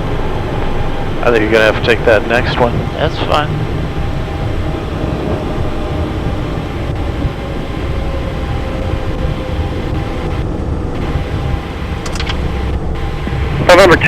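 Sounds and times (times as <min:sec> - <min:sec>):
jet cockpit rumble: 0:00.0 - 0:14.0.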